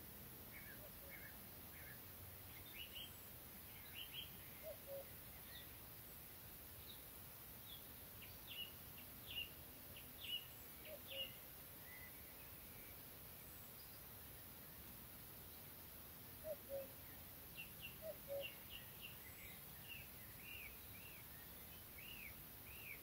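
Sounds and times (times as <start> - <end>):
faint background hiss: 0.0 - 23.0
birds chirping: 0.5 - 5.8, 6.8 - 23.0.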